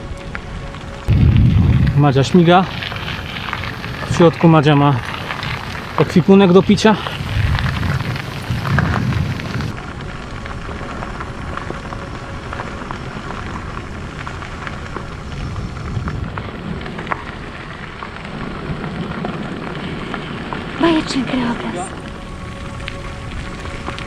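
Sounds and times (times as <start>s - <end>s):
bicycle tyres on gravel: 0.0s - 24.0s
wind rumbling on microphone: 0.0s - 24.0s.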